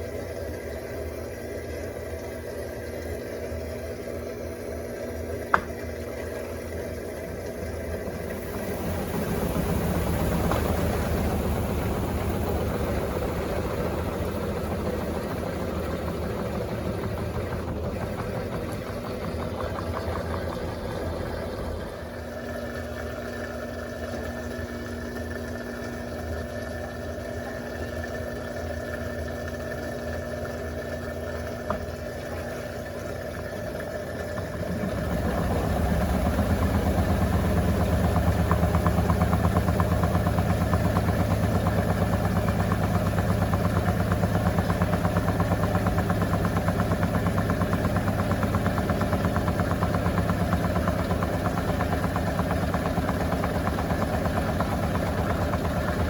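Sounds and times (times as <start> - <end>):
washing machine motor humming: 0.0 - 56.0
washing machine tub spinning: 0.0 - 56.0.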